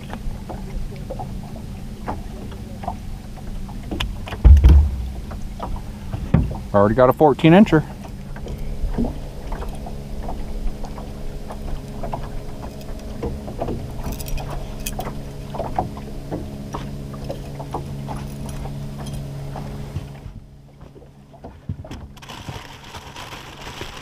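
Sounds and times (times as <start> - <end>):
boat motor humming: 0.0 - 24.0.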